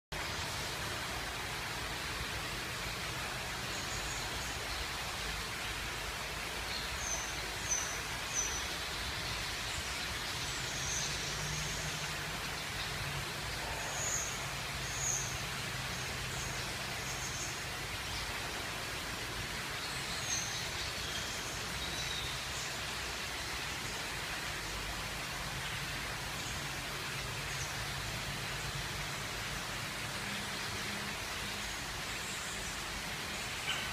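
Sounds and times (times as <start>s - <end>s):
steady background hiss: 0.1s - 33.9s.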